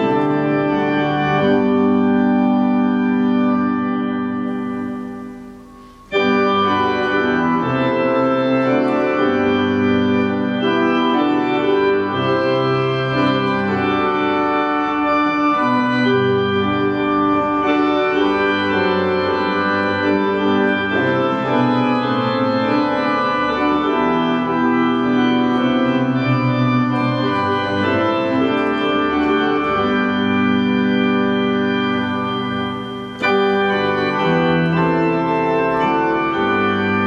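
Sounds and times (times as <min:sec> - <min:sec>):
organ playing sustained chords: 0:00.0 - 0:37.0.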